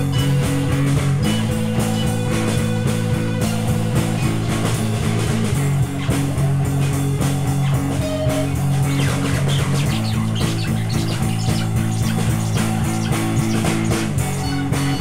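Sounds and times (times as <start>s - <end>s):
drum kit: 0.0s - 15.0s
sustained low guitar chords: 0.0s - 15.0s.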